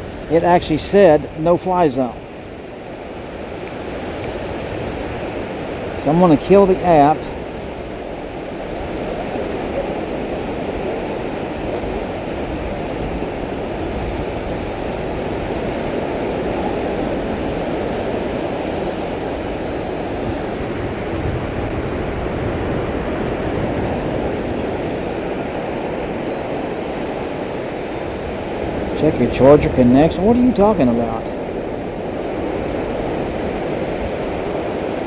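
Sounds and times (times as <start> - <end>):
ocean surf: 0.0 - 35.0
wind: 0.0 - 35.0.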